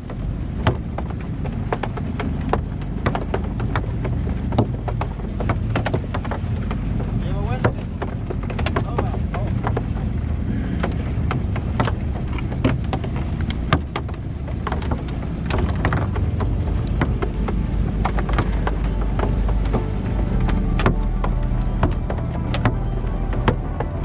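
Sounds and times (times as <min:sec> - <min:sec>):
boat motor droning: 0:00.0 - 0:24.0
net weights clattering on hull: 0:00.0 - 0:24.0
water washing along hull: 0:00.0 - 0:24.0.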